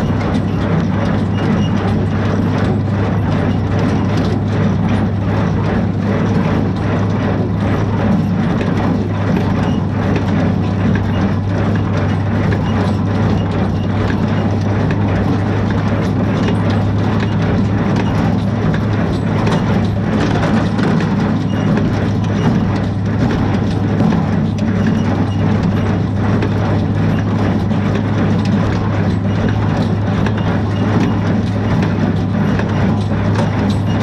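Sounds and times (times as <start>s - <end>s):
tractor engine drone: 0.0s - 34.0s.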